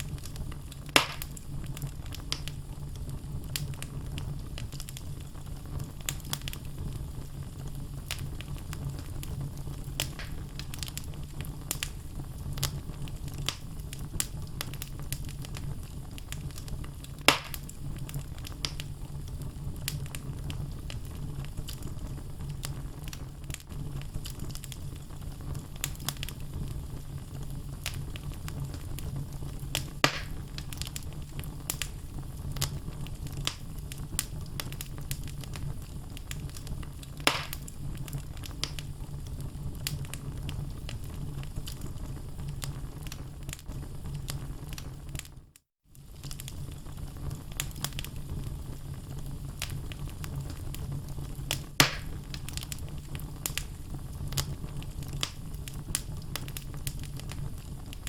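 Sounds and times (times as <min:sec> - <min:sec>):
fire crackling and popping: 0:00.0 - 0:58.0
low rumble of flames: 0:00.0 - 0:58.0.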